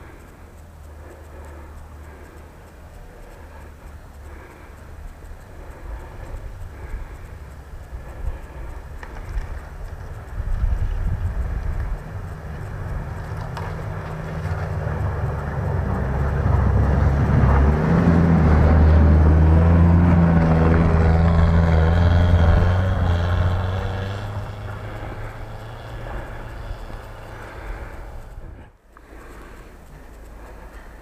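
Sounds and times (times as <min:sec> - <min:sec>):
vehicle engine driving past: 0:03.1 - 0:28.8.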